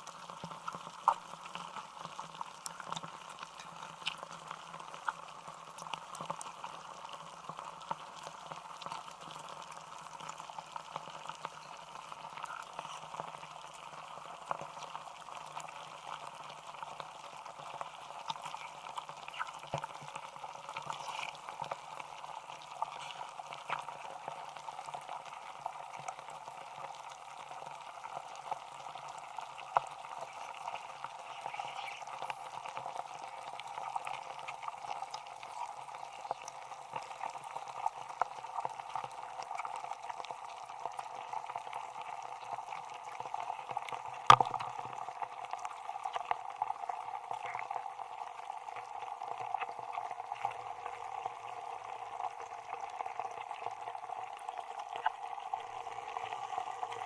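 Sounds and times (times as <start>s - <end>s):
scattered crackles: 0.0s - 57.0s.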